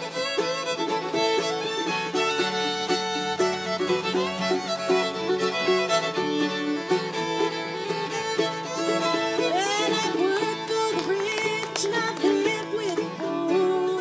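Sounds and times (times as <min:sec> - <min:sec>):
bowed fiddle melody: 0:00.0 - 0:14.0
mandolin: 0:00.0 - 0:14.0
strummed acoustic guitar: 0:00.0 - 0:14.0.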